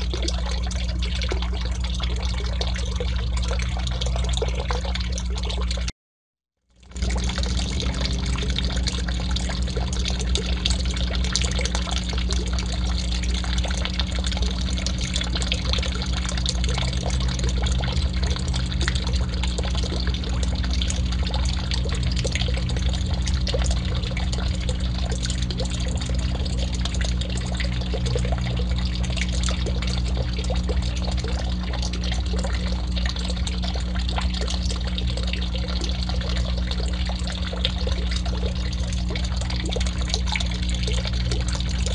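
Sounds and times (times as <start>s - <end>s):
low hum: 0.0s - 5.9s, 6.8s - 41.9s
water pouring into pond: 0.0s - 5.9s, 6.7s - 41.9s.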